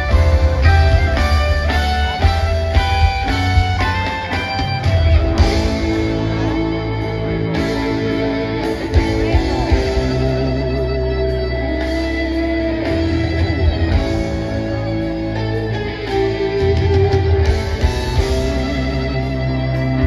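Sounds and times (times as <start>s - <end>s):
electric guitar with bent notes: 0.0s - 20.0s
live rock band playing: 0.0s - 20.0s.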